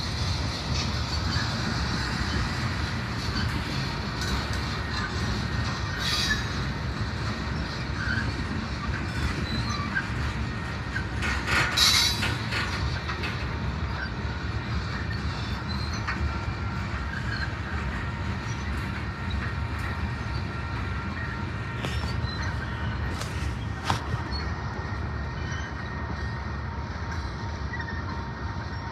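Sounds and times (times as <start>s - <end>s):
steel wheels rumbling on rail: 0.0s - 28.9s
wheel squeal: 0.0s - 28.9s.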